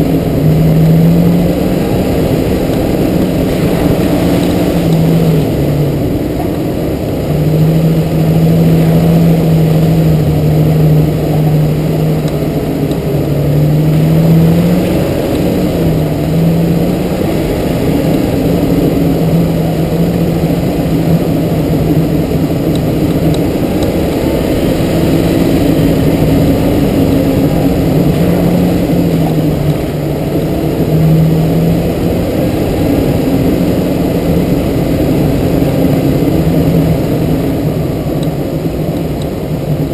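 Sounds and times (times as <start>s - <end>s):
car engine running: 0.0s - 39.9s
tyres rumbling on dirt: 0.0s - 39.9s.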